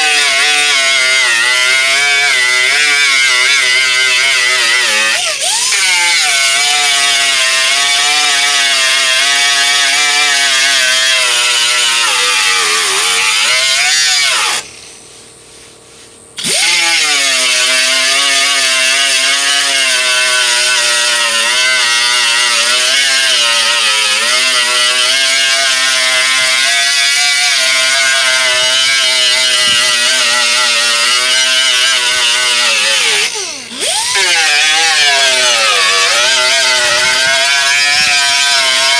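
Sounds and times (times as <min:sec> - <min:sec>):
grinder sanding metal whine: 0:00.0 - 0:38.9.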